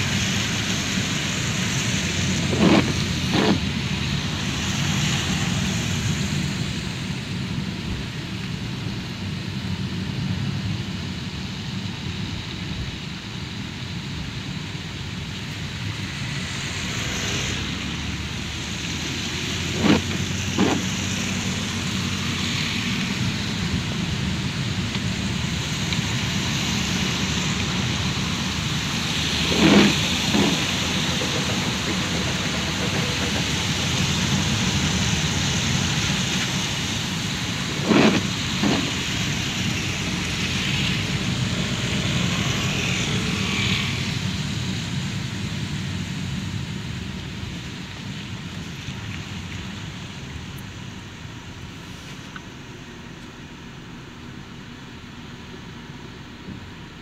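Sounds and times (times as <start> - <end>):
rain on a car: 0.0 - 57.0
road noise inside a car: 0.0 - 57.0.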